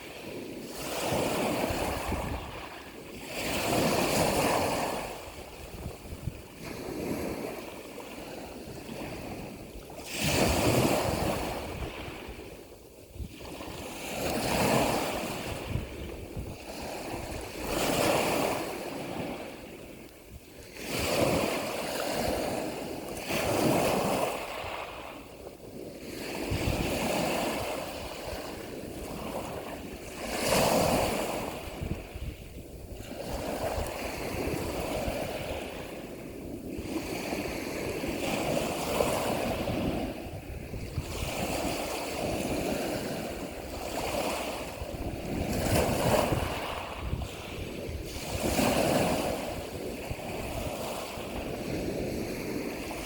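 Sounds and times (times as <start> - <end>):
sea waves breaking: 0.0 - 53.0.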